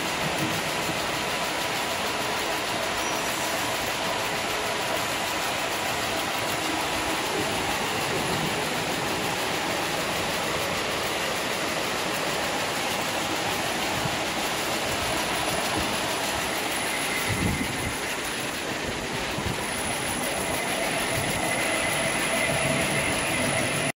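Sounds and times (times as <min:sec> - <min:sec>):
braiding machines clattering: 0:00.0 - 0:23.9.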